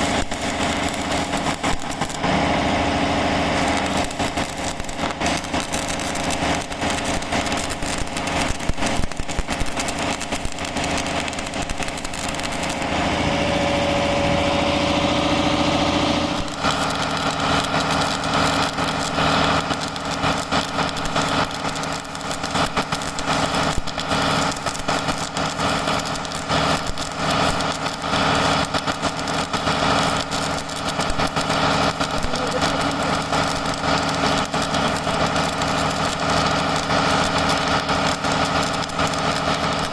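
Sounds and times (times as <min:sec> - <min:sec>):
welding arc crackling: 0:00.0 - 0:39.9
welding machine hum: 0:00.0 - 0:39.9.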